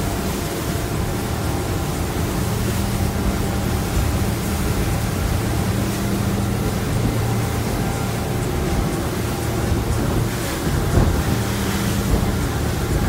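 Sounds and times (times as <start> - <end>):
boat engines humming: 0.0 - 13.0
wind and water rushing: 0.0 - 13.0.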